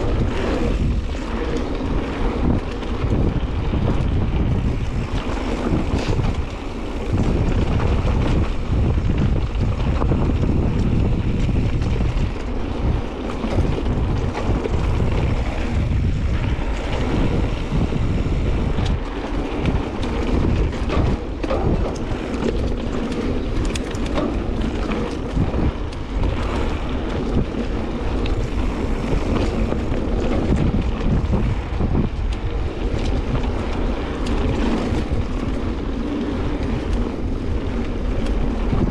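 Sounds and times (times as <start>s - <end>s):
bike knocks and rattles: 0.0s - 38.9s
bike tyre rumble on dirt: 0.0s - 38.9s
wind buffeting microphone: 0.0s - 38.9s.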